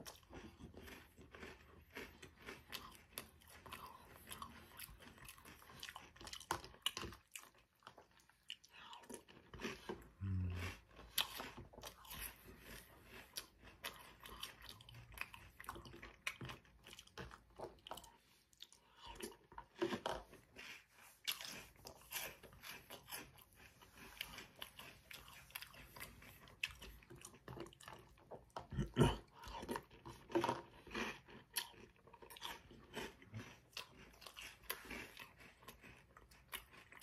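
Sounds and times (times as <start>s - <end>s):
wet mouth sounds: 0.0s - 30.2s
chewing and crunching cereal: 0.0s - 37.0s.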